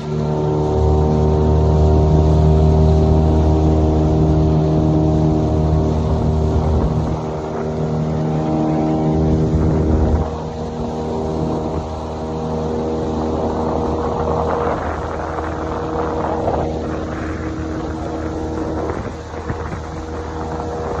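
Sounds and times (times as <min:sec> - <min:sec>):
motorboat engine running: 0:00.0 - 0:21.0
water and wind rushing: 0:00.0 - 0:21.0.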